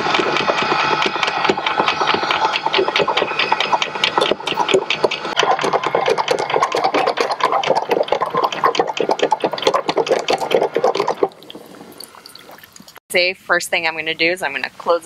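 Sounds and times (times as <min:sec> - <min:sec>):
windlass motor hum: 0:00.0 - 0:13.0.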